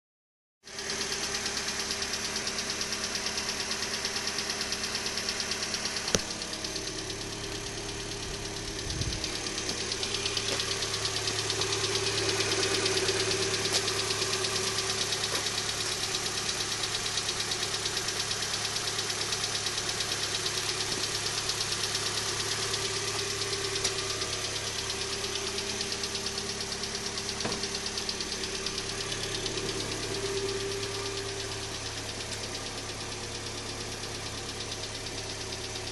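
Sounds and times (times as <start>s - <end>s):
car engine idling: 0.7s - 35.9s
rapid even engine ticking: 0.7s - 35.9s.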